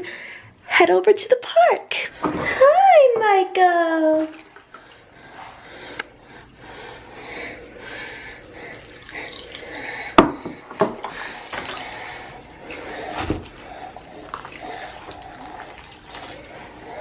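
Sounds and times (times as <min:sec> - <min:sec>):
water splashing in a bath: 0:02.1 - 0:17.0.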